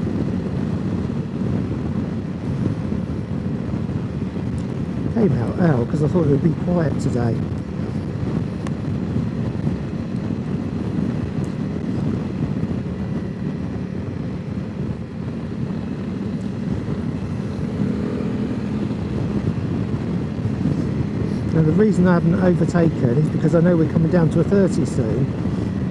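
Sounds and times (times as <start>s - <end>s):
motorcycle engine cruising: 0.0s - 25.9s
wind noise on microphone: 0.0s - 25.9s.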